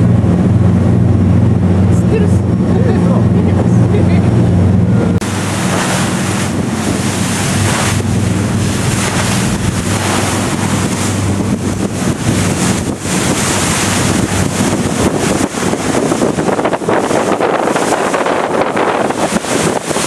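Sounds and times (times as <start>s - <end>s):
low ferry engine hum: 0.0s - 20.0s
wind buffeting microphone: 0.0s - 20.0s.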